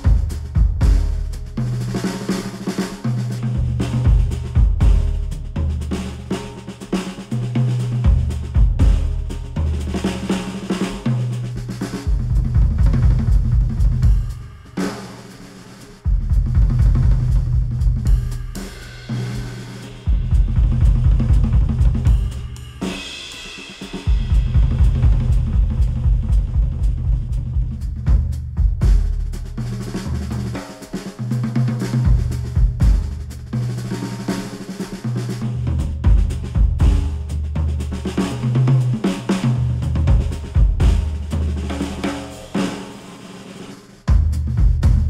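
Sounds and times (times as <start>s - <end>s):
drum kit groove: 0.0s - 45.0s.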